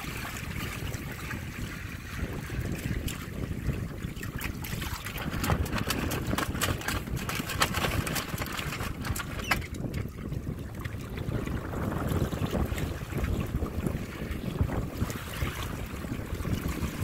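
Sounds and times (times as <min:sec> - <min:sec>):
water splashing along hulls: 0:00.0 - 0:17.0
wind rumble on microphone: 0:00.0 - 0:17.0.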